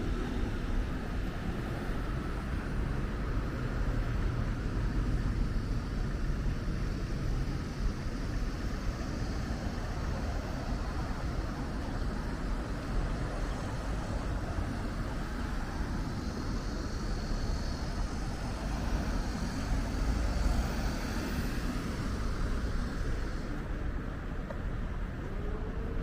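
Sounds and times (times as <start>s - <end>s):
street traffic passing: 0.0s - 26.0s.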